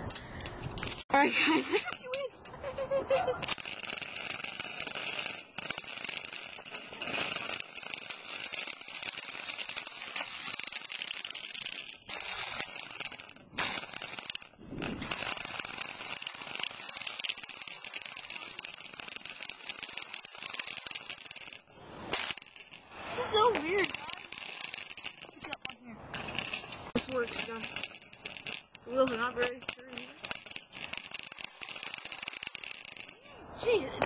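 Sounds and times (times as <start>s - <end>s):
cart wheels rolling on asphalt: 1.6s - 34.0s.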